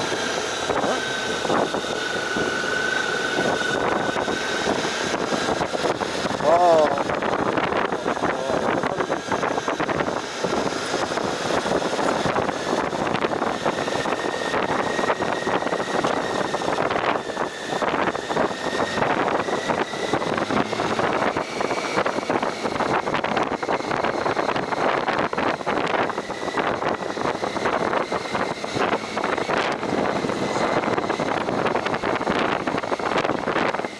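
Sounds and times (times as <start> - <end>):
motorcycle engine and road noise: 0.0 - 33.9
wind buffeting microphone: 0.0 - 33.9.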